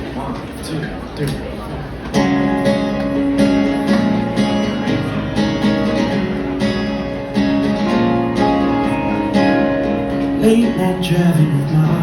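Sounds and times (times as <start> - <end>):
acoustic guitar strumming chords: 2.1 - 12.0.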